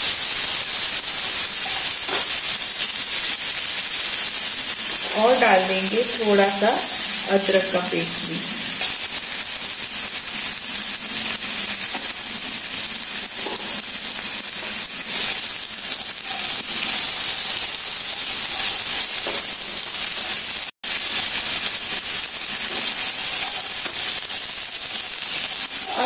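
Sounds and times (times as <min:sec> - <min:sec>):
pastes sizzling in hot oil: 0:00.0 - 0:26.0.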